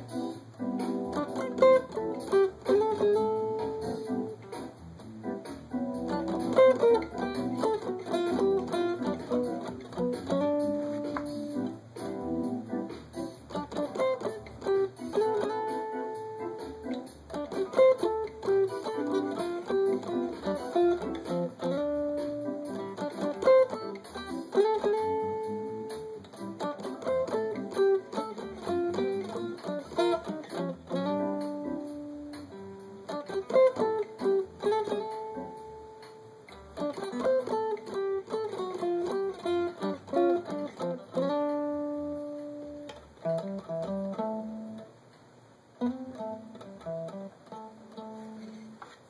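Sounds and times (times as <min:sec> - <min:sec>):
acoustic jazz guitar solo: 0:00.0 - 0:45.1, 0:45.7 - 0:49.0.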